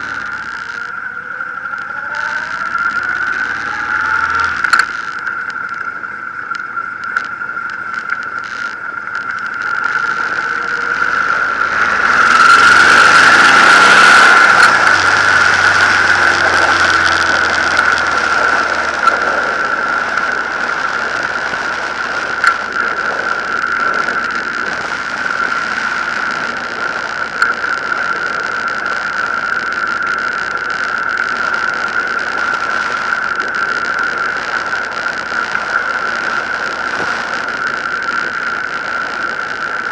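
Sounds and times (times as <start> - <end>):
motorcycle engine: 0.0 - 6.2, 6.8 - 39.1
steady high-pitched whine: 0.0 - 39.9
wind noise: 0.0 - 39.9.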